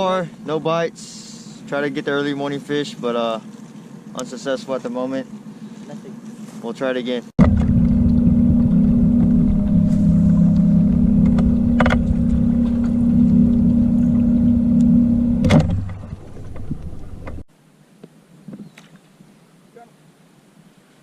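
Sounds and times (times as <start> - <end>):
boat rumbling over water: 0.0 - 17.5
outboard motor running: 0.0 - 17.5.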